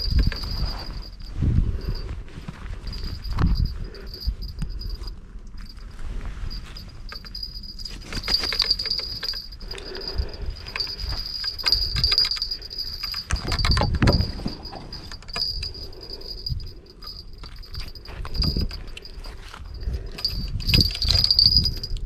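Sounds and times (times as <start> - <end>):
footsteps on stony ground: 0.0 - 13.0, 14.2 - 21.9.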